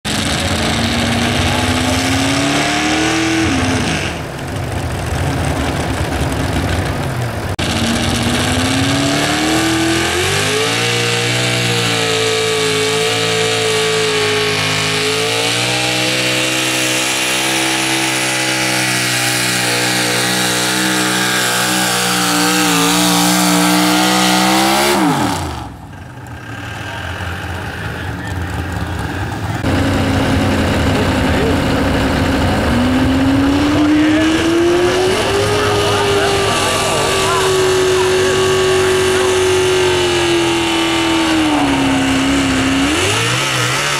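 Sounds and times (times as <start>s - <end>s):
truck engine at full throttle: 0.0s - 43.9s.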